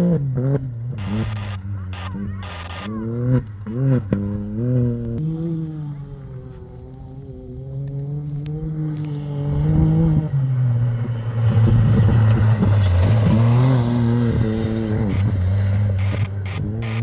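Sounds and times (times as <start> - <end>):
off-road vehicle engine passing: 0.0 - 17.0
tyre and dirt noise: 0.0 - 17.0.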